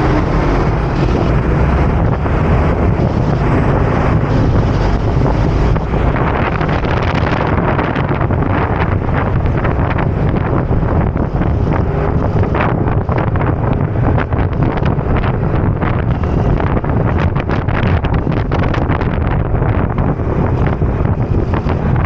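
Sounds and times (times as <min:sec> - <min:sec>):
vehicle noise: 0:00.0 - 0:22.0
wind buffeting microphone: 0:00.0 - 0:22.0.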